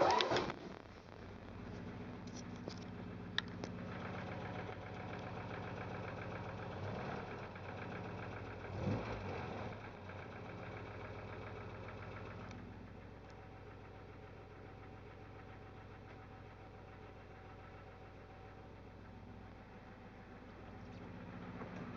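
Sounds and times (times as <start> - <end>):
car engine idling with clacking: 0.0 - 21.9.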